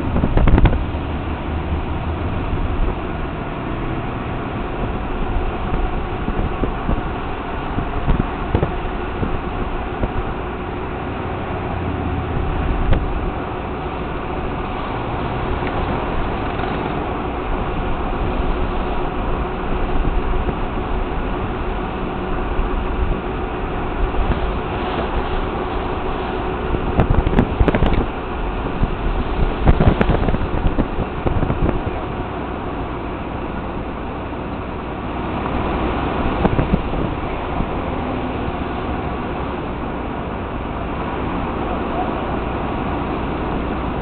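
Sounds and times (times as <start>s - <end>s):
car road and engine noise: 0.0s - 44.0s.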